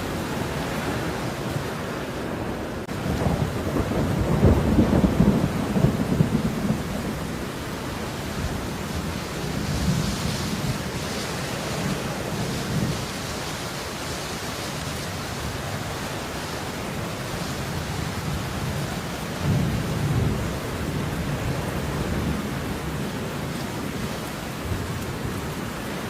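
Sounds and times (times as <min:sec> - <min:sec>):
rain hiss: 0:00.0 - 0:26.0.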